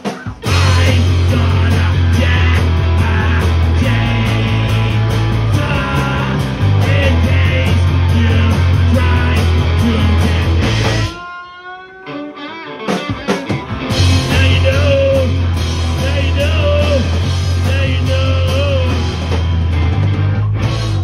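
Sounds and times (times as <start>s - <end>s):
person singing: 0.0s - 12.6s, 14.1s - 19.1s
bass guitar: 0.0s - 21.0s
drums: 0.0s - 21.0s
electric guitar: 0.0s - 21.0s.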